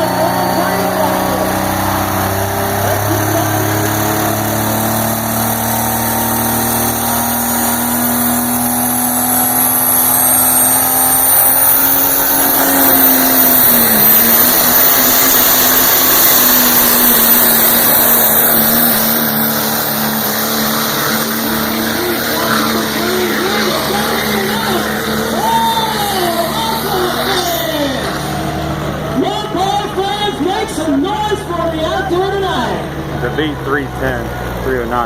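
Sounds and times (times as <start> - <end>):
diesel truck engine under load: 0.0 - 35.0
turbo whine: 0.0 - 35.0.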